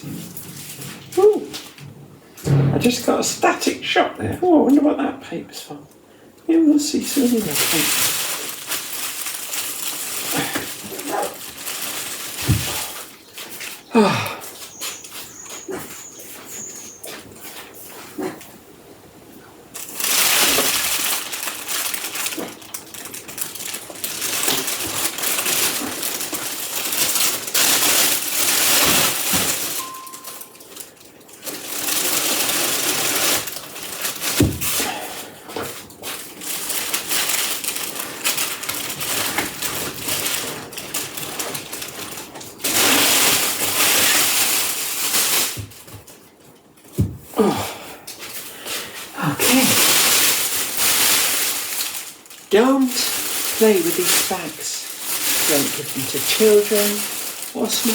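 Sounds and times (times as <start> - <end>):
plastic bags crinkling: 0.0 - 3.8, 6.0 - 18.7, 19.3 - 57.9.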